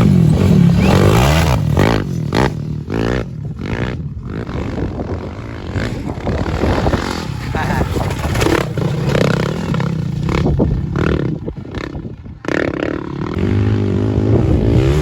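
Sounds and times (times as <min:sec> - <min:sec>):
off-road motorcycle engines revving: 0:00.0 - 0:15.0.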